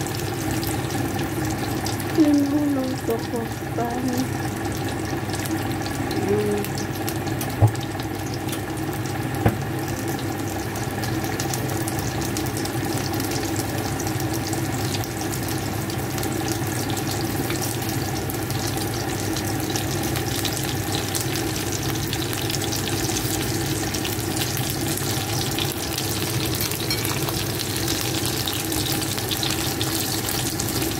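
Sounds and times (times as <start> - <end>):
food sizzling in oil: 0.0 - 30.9.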